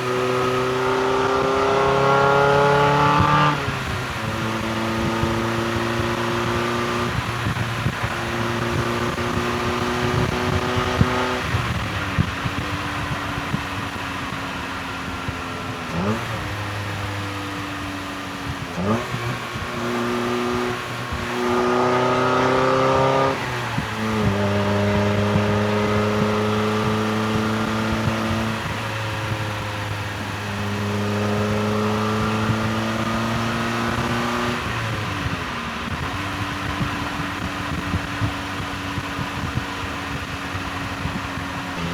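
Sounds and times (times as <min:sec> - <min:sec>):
car engine revving through gears: 0:00.0 - 0:41.9.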